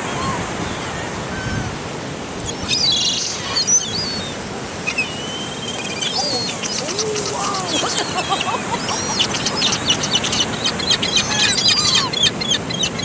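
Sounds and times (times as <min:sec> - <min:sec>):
surf rushing: 0:00.0 - 0:12.6
wind noise: 0:00.0 - 0:12.7
birds chirping: 0:02.4 - 0:13.0.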